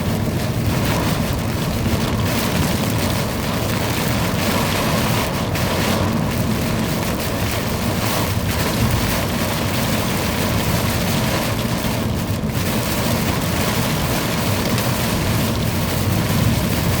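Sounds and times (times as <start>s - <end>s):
constant low rumble: 0.0s - 17.0s
heavy rain pouring: 0.0s - 17.0s.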